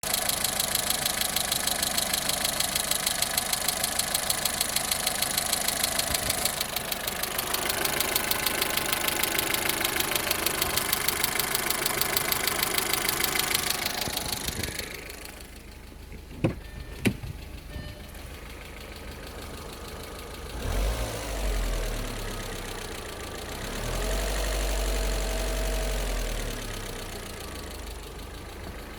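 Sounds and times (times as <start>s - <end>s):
car engine with ticking lifters: 0.0s - 28.9s.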